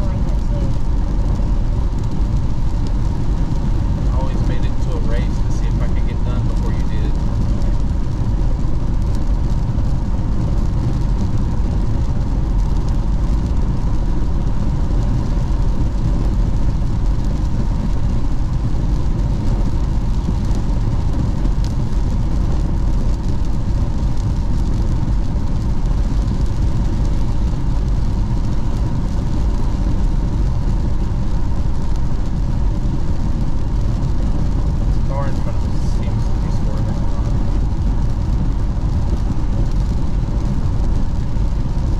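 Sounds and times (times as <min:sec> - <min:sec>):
car road noise on wet road: 0:00.0 - 0:41.9.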